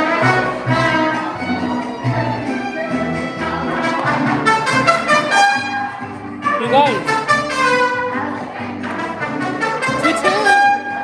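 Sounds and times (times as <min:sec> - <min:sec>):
brass music with trumpets: 0:00.0 - 0:11.0.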